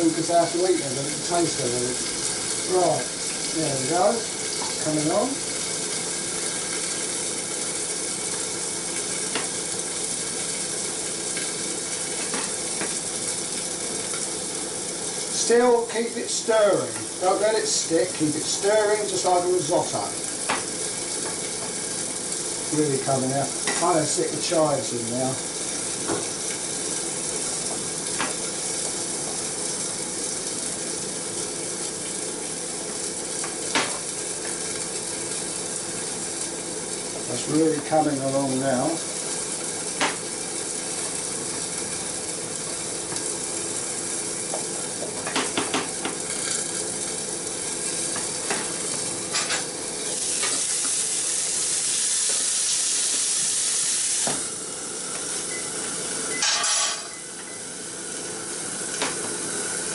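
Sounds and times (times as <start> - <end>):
food sizzling: 0.0 - 59.9.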